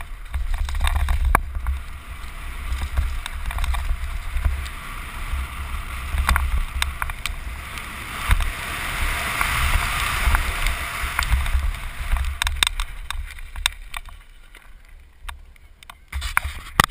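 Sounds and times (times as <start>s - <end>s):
wind buffeting microphone: 0.0s - 15.4s
bike rattling over bumps: 0.0s - 16.9s
tyres over dirt and gravel: 0.0s - 16.9s.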